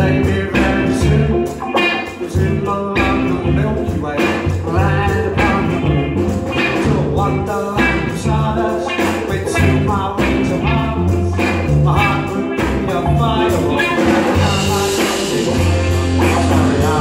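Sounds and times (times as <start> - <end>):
drum kit: 0.0 - 17.0
electric bass: 0.0 - 17.0
electric guitars: 0.0 - 17.0
male singer: 0.0 - 17.0.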